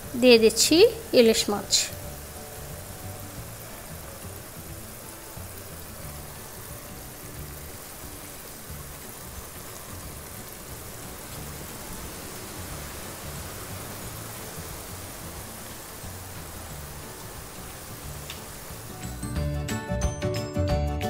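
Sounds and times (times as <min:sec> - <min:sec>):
sauce sizzling in a frying pan: 0:00.0 - 0:20.0
soft background music: 0:00.0 - 0:21.0.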